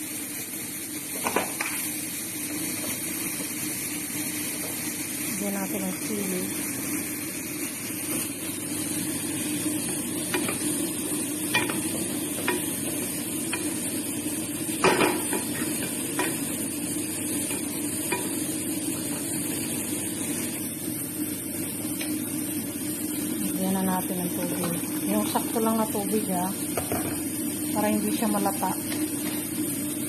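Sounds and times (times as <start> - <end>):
rice sizzling: 0.0 - 30.0.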